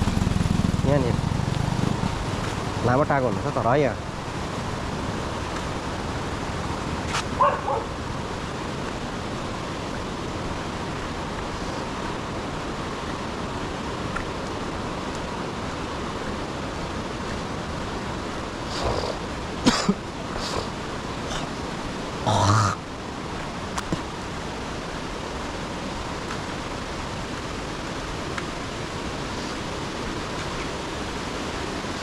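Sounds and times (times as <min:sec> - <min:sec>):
river flowing: 0:00.0 - 0:32.0.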